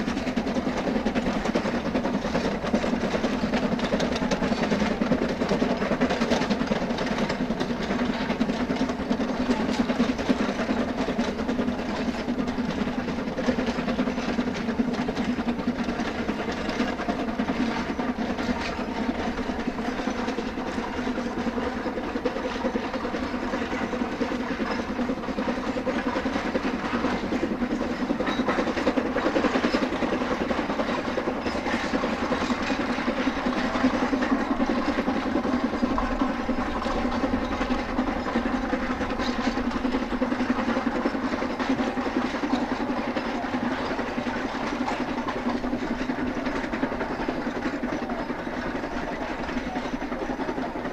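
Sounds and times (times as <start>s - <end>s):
steam locomotive running: 0.0s - 50.9s.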